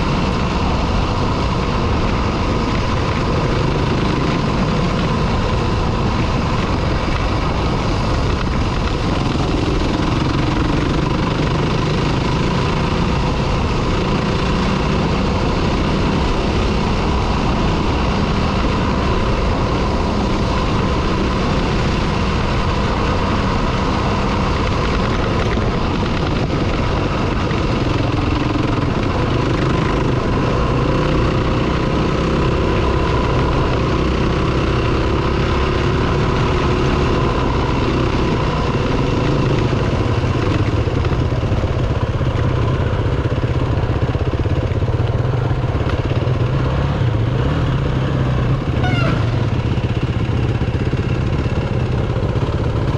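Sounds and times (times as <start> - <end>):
constant rushing noise: 0.0 - 52.9
dirt bike engine running: 0.0 - 52.9.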